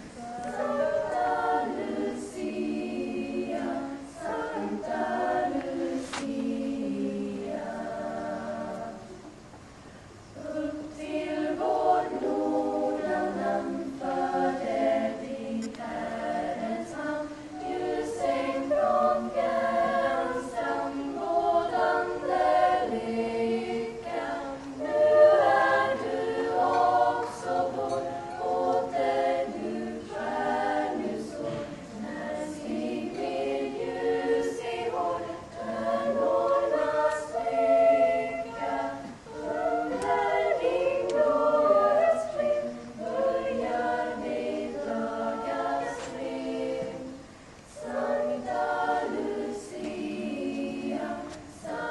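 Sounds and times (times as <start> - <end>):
choir singing: 0.0 - 9.4, 10.3 - 51.9.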